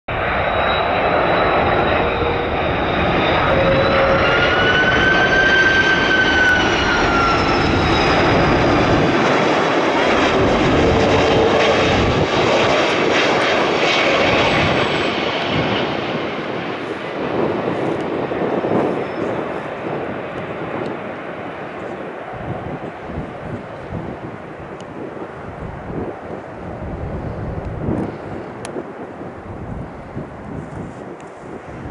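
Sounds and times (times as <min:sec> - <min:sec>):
jet airliner engines whining: 0:00.1 - 0:31.9.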